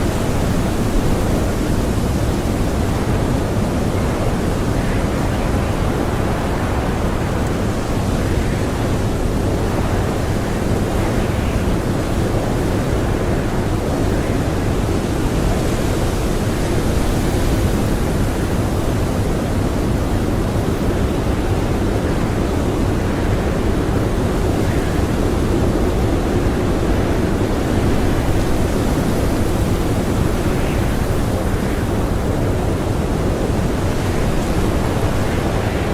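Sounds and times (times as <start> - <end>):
strong blizzard wind: 0.0 - 35.9.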